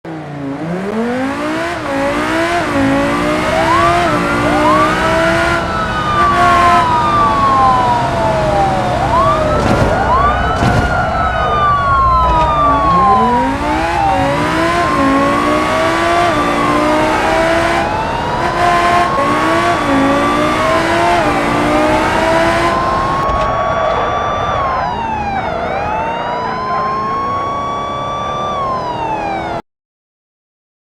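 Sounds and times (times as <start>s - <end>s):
car engine noise: 0.0s - 29.6s
police sirens wailing: 0.1s - 29.6s.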